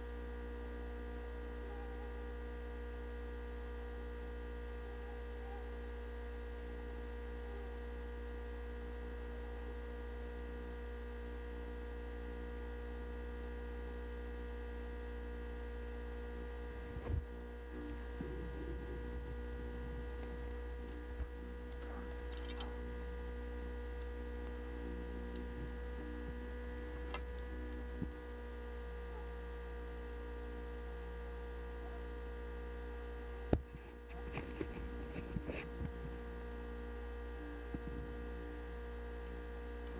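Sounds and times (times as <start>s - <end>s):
electrical hum with tones: 0.0s - 39.9s.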